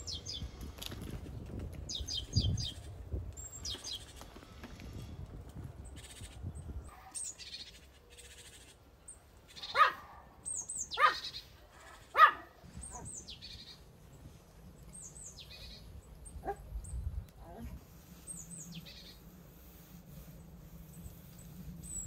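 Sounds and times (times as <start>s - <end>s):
small birds chirping: 0.0s - 4.8s, 5.6s - 22.0s.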